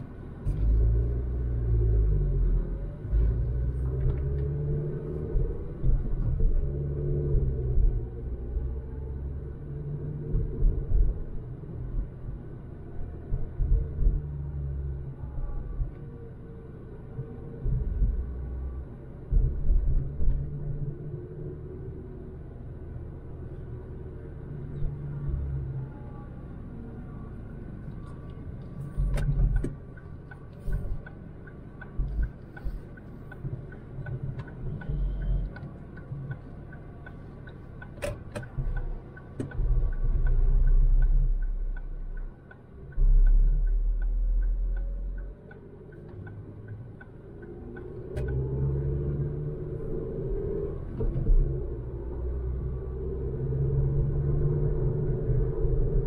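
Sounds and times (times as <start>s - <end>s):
car engine and road rumble: 0.0s - 56.0s
turn signal ticking: 0.0s - 56.0s.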